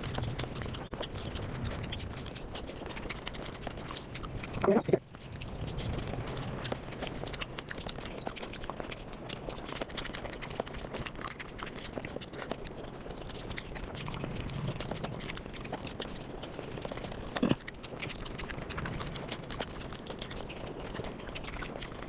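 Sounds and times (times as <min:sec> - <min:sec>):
fast chewing and mouth smacking: 0:00.0 - 0:22.0.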